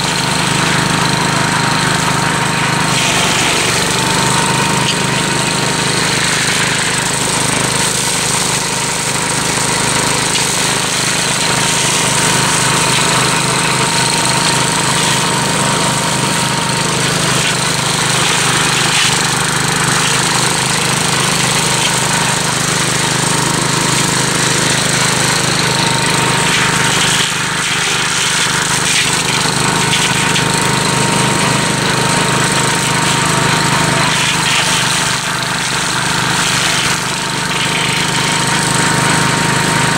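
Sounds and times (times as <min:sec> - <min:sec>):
mower cutting through bush: 0:00.0 - 0:39.9
tractor engine running: 0:00.0 - 0:39.9.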